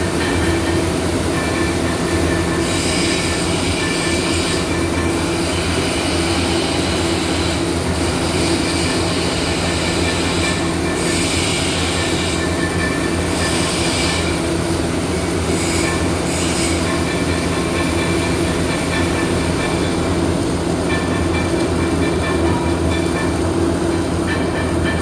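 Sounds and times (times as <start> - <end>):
steady machine hum: 0.0 - 25.0
workshop noise: 0.0 - 25.0.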